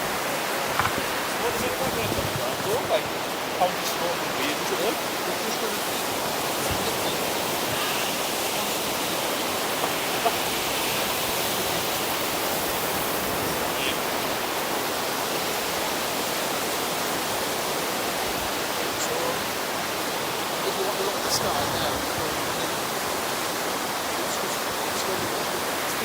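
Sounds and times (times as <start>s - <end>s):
seashore rushing noise: 0.0s - 26.0s.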